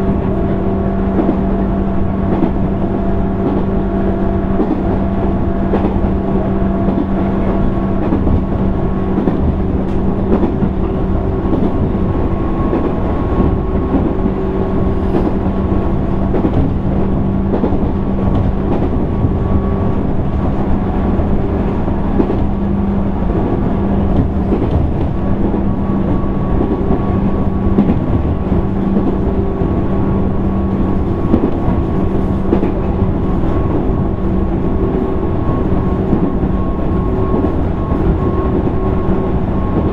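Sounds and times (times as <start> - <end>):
wheel-on-rail rumble: 0.0 - 39.9.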